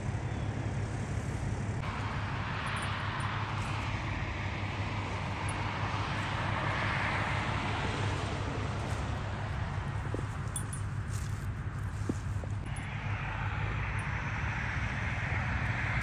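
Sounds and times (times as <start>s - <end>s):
car passing: 0.0s - 16.0s
highway traffic: 0.0s - 16.0s.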